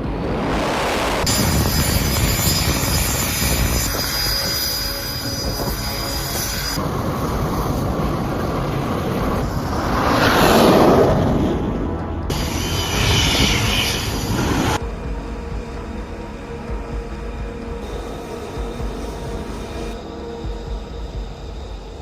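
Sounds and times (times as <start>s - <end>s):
aircraft engine rush: 0.0s - 22.0s.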